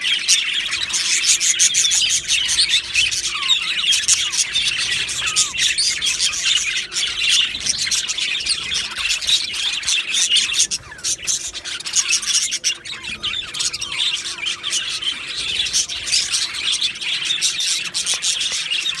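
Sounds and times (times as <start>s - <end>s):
budgerigars chirping and warbling: 0.0s - 19.0s.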